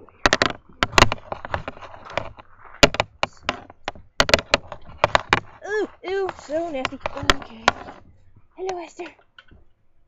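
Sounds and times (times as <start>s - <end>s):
sharp clicks and knocks: 0.0s - 9.8s.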